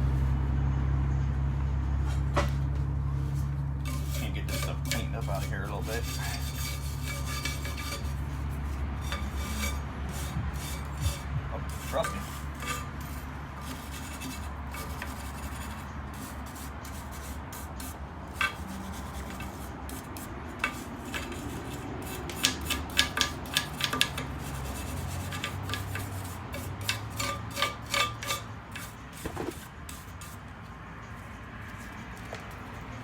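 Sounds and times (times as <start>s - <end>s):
scraping metal brake parts: 2.0s - 33.0s.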